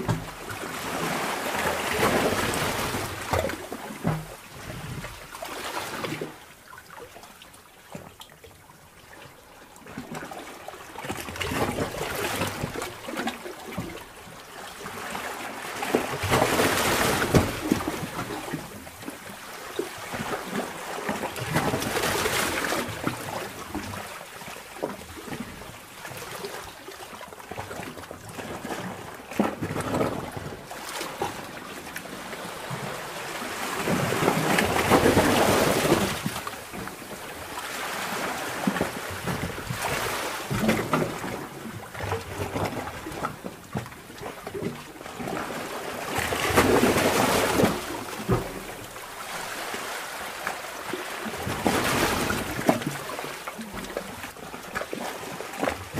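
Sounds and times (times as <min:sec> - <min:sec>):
underwater sea water surging: 0:00.0 - 0:07.1, 0:09.8 - 0:55.9
water gurgles and trickles: 0:00.0 - 0:55.9.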